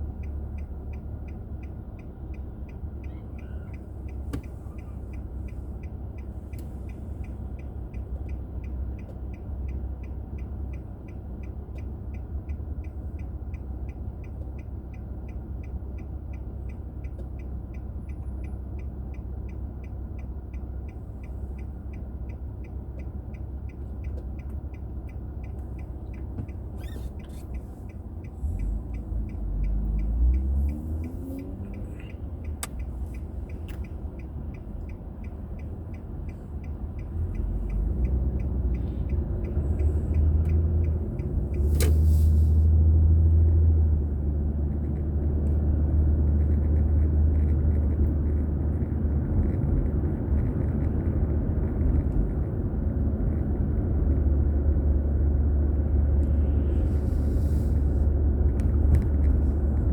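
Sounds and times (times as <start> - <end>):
car engine and road rumble: 0.0 - 59.9
turn signal clicking: 0.0 - 59.9.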